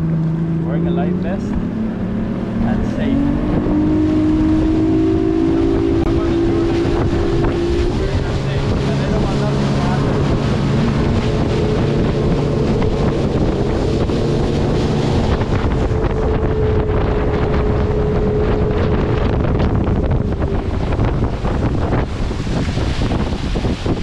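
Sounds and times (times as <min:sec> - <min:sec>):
motorboat engine running: 0:00.0 - 0:24.0
water rushing past hull: 0:00.0 - 0:24.0
wind buffeting microphone: 0:00.0 - 0:24.0.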